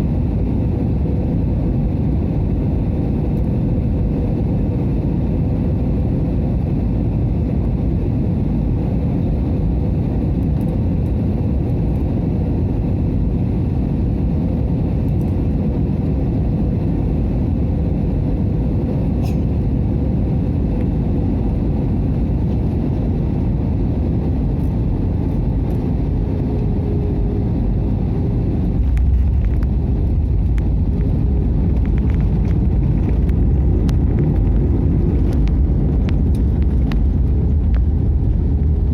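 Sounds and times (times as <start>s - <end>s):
roar of engines and airflow: 0.0s - 38.9s.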